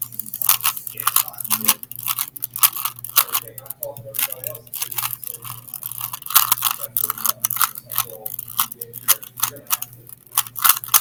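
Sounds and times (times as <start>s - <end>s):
steady low hum: 0.0s - 11.0s
plastic cube clicking: 0.1s - 11.0s.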